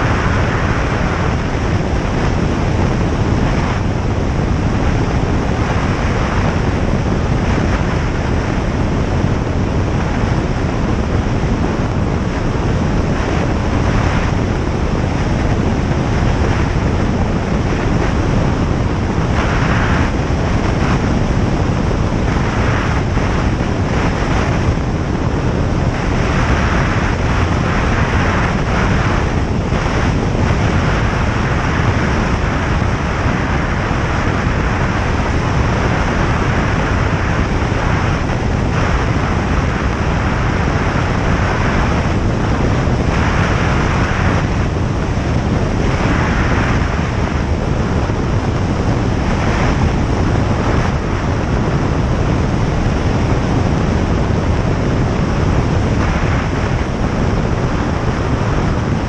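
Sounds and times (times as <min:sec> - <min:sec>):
airplane engine and propeller drone: 0:00.0 - 0:59.0
rushing airflow: 0:00.0 - 0:59.0.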